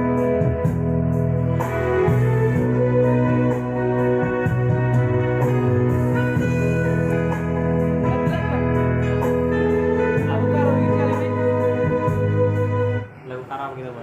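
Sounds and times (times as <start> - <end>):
guitar: 0.0 - 13.8
held chords: 0.0 - 14.0.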